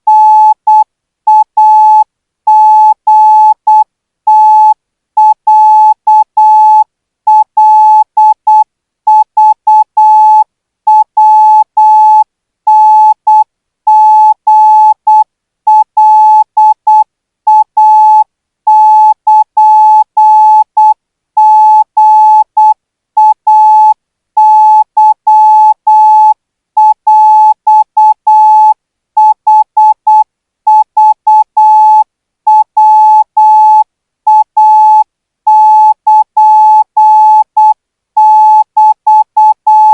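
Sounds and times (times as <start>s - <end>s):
morse code beeps: 0.1s - 39.9s.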